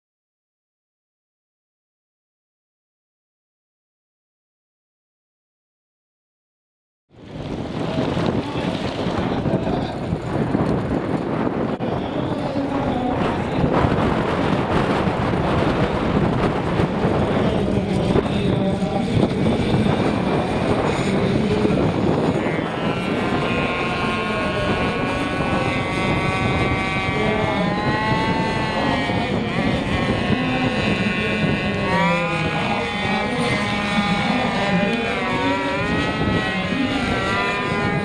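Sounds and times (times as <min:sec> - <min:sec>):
high engine and rotor whine: 0:07.2 - 0:38.0
rc helicopter engine and rotors: 0:07.2 - 0:38.0
wind on microphone: 0:07.2 - 0:38.0.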